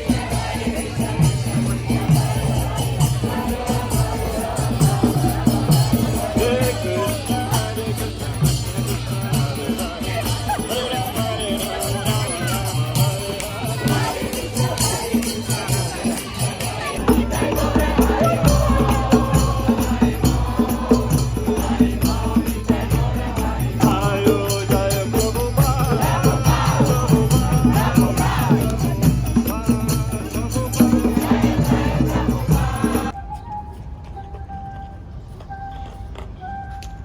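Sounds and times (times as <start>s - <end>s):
rattle-like shaker percussion: 0.0s - 33.2s.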